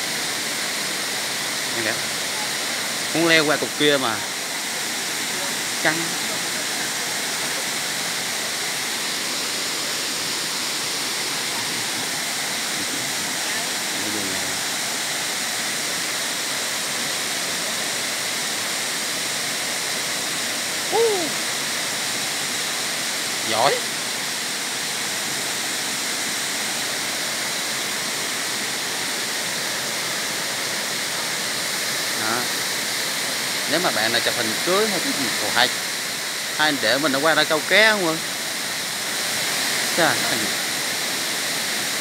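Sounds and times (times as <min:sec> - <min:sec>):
waterfall rushing over rocks: 0:00.0 - 0:42.0.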